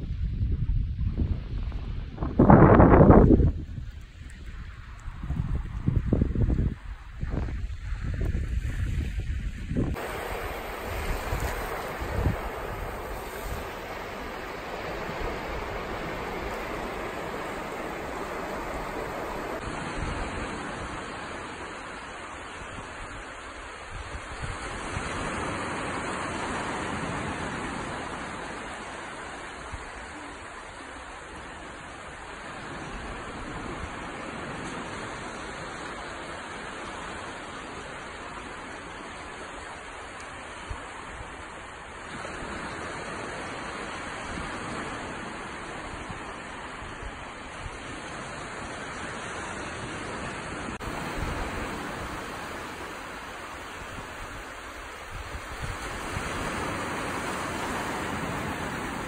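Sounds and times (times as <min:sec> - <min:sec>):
surf washing on sandy beach: 0:00.9 - 0:59.0.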